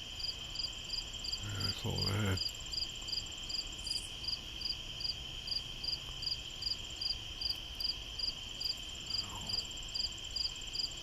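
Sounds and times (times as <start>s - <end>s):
insect chirping: 0.0s - 11.0s
insects trilling: 0.0s - 11.0s.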